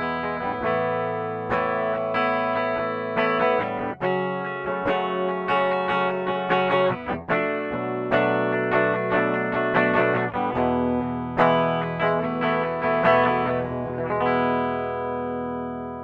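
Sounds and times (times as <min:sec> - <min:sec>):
clean electric guitar picking: 0:00.0 - 0:16.0.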